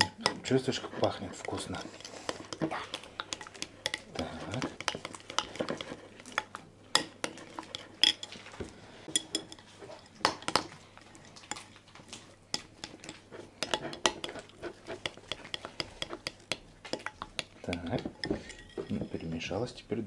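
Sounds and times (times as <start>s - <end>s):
utensil scraping and clicking on plate: 0.0s - 8.5s, 9.1s - 19.3s.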